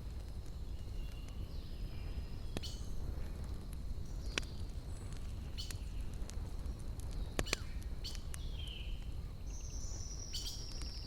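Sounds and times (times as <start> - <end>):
burning wood crackle: 0.0 - 11.0
campfire rumble: 0.0 - 11.0.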